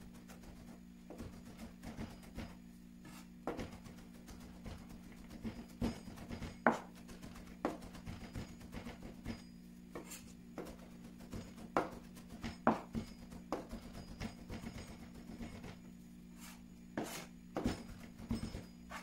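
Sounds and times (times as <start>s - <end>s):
knife mincing on plastic board: 0.0s - 19.0s
steady low hum: 0.0s - 19.0s.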